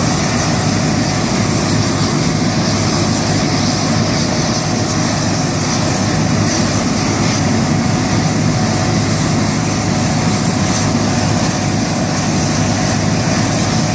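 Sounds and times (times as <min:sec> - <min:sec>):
constant rushing hiss: 0:00.0 - 0:13.9
tractor engine running: 0:00.0 - 0:13.9.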